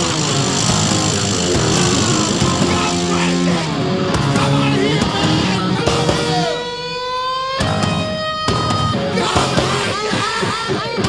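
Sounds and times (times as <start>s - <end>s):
distorted electric guitar: 0.0s - 11.0s
live heavy metal band: 0.0s - 11.0s.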